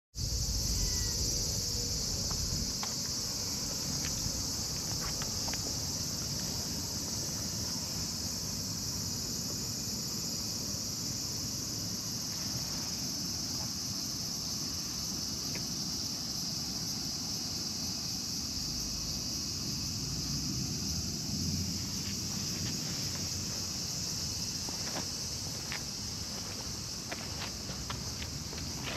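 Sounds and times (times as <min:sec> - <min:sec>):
insects chirring: 0:00.2 - 0:28.9.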